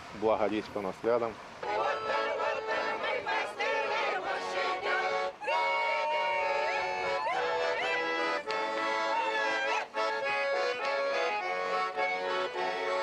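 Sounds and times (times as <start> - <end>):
folk ensemble singing: 1.6 - 13.0
instrumental accompaniment: 1.6 - 13.0.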